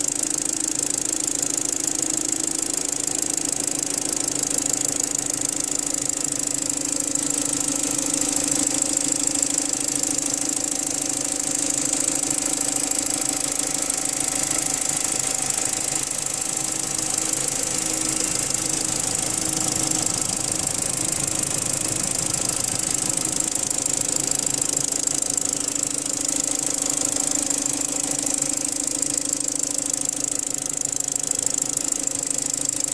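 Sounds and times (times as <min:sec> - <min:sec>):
engine running with knocking rattle: 0:00.0 - 0:32.9.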